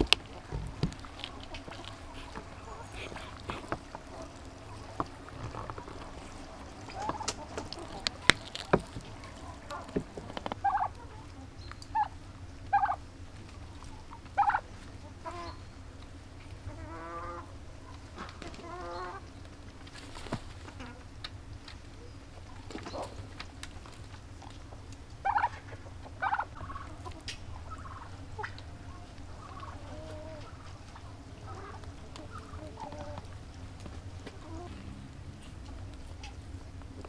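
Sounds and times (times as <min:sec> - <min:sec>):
turkeys gobbling: 0:00.0 - 0:37.0
turkeys yelping: 0:00.0 - 0:37.0.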